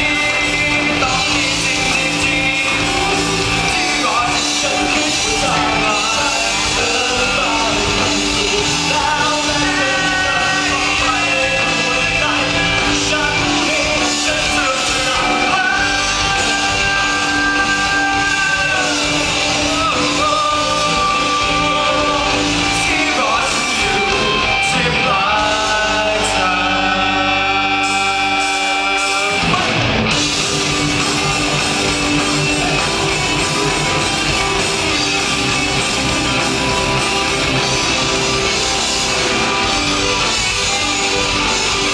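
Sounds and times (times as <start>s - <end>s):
live rock band playing: 0.0s - 41.9s
person singing: 0.0s - 41.9s.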